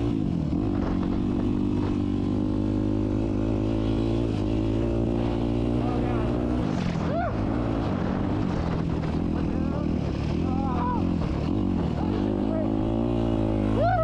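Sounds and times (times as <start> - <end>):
motocross bike engine running: 0.0 - 6.5, 8.0 - 14.0.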